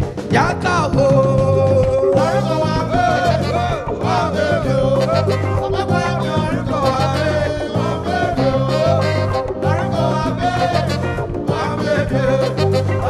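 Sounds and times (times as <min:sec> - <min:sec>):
afrobeat band playing: 0:00.0 - 0:13.0
bass guitar: 0:00.0 - 0:13.0
congas: 0:00.0 - 0:13.0
drum kit: 0:00.0 - 0:13.0
sliding lead melody: 0:00.0 - 0:13.0.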